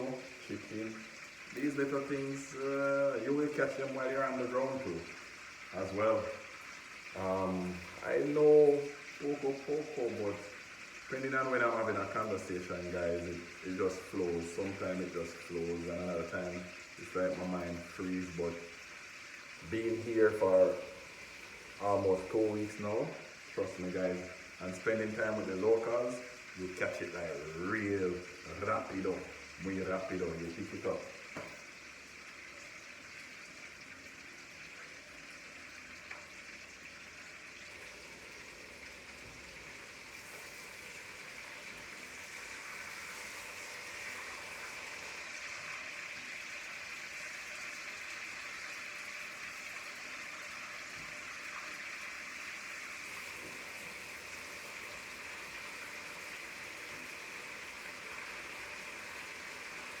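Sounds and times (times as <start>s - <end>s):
hot oil sizzling: 0.0s - 60.0s.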